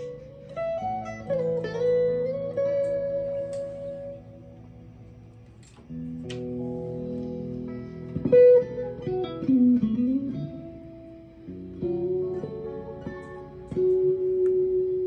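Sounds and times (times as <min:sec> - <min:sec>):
electric guitar chords and notes: 0:00.0 - 0:15.0.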